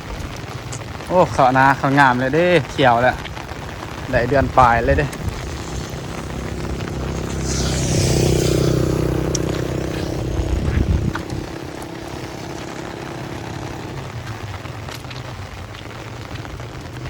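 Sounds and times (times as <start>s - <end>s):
motorcycle engine running: 2.4s - 17.0s.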